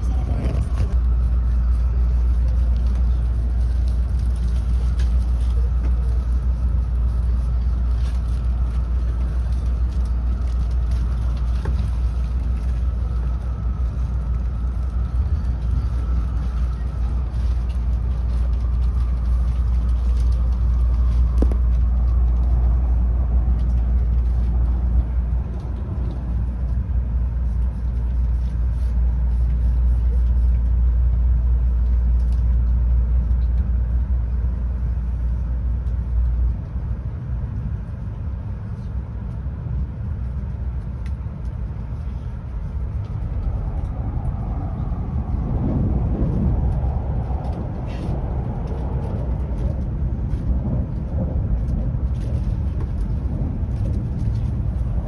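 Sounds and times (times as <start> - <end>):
faint whine: 0.0 - 55.0
train cabin rumble: 0.0 - 55.0.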